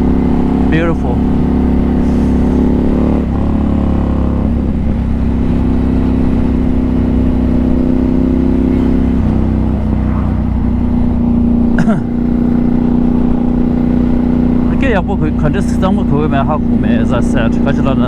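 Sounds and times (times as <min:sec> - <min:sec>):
motorcycle engine inside helmet: 0:00.0 - 0:18.0.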